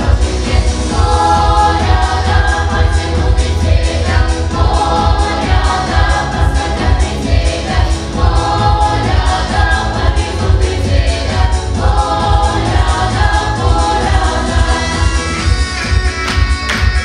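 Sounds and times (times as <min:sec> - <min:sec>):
children singing in harmony: 0:00.0 - 0:16.0
low pulsing accompaniment: 0:00.0 - 0:17.0.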